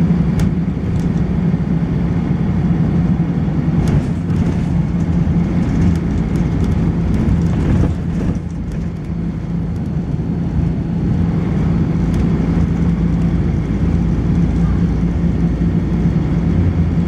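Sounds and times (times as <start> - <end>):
bus engine running: 0.0 - 17.0
road and body rumble: 0.0 - 17.0.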